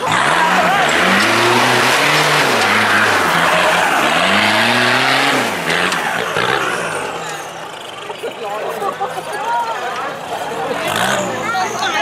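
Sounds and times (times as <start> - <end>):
truck engine revving hard: 0.0 - 8.3, 10.4 - 12.0
tyres spinning in dirt: 0.0 - 12.0.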